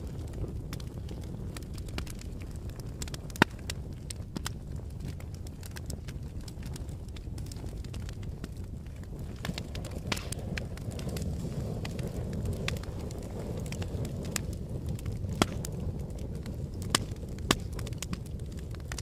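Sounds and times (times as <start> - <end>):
fire flames rushing: 0.0 - 19.0
wood fire crackles and pops: 0.0 - 19.0.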